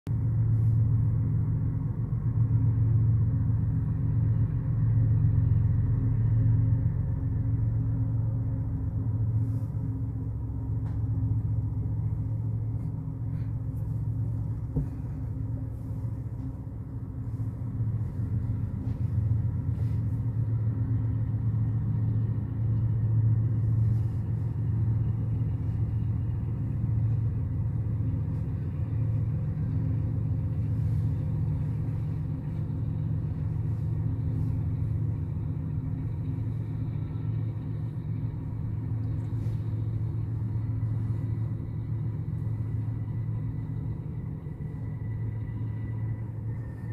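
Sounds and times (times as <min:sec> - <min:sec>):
freight train rumbling past: 0:00.1 - 0:46.9.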